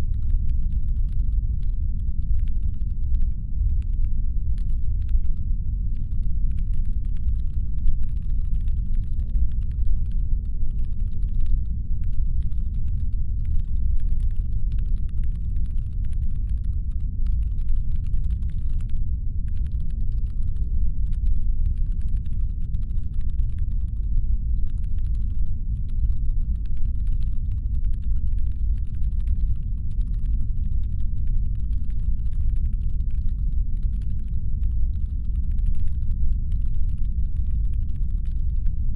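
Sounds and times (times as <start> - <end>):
deep brown noise rumble: 0.0 - 38.9
fast crackle of small clicks: 0.0 - 38.9.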